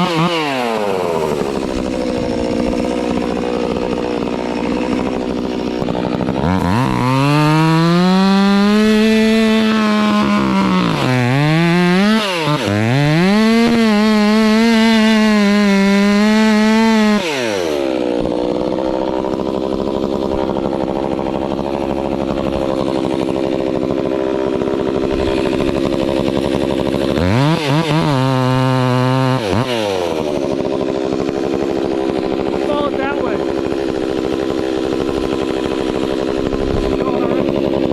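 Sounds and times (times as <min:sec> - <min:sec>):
chainsaw revving and idling: 0:00.0 - 0:37.9.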